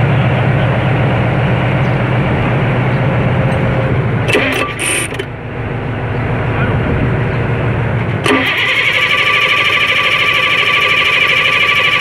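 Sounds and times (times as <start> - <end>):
diesel engine cranking: 1.2 - 12.0.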